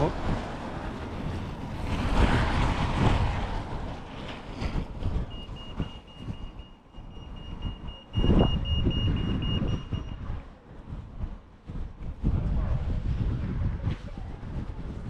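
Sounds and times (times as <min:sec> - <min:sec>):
car passing: 0:00.0 - 0:15.0
wind buffeting microphone: 0:00.0 - 0:15.0.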